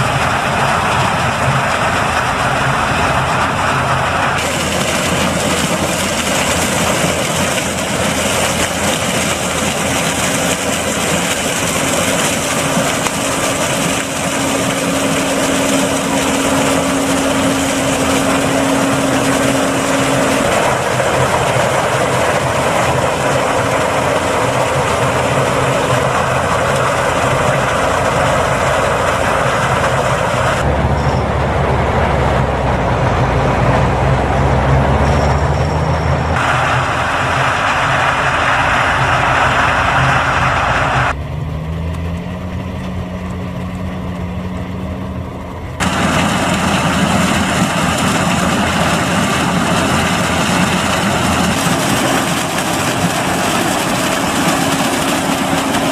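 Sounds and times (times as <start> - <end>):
combine harvester working: 0.0 - 55.9
tractor engine driving up: 0.0 - 55.9.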